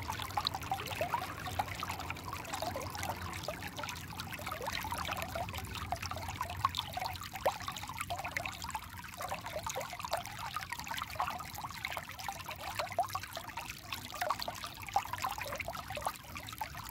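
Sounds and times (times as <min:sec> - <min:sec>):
stream flowing over stones: 0:00.0 - 0:16.9.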